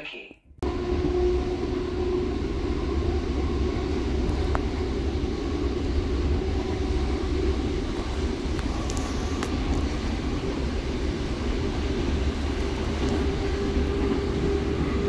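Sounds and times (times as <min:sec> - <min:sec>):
train carriage running rumble: 0:00.6 - 0:15.0.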